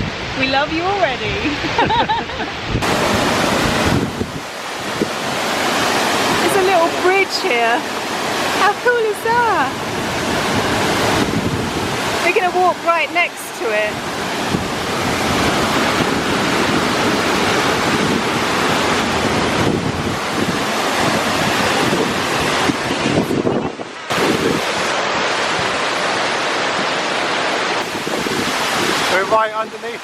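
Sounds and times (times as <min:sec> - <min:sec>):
wind buffeting microphone: 0:00.0 - 0:27.2, 0:27.8 - 0:30.0
waterfall gushing: 0:00.0 - 0:30.0.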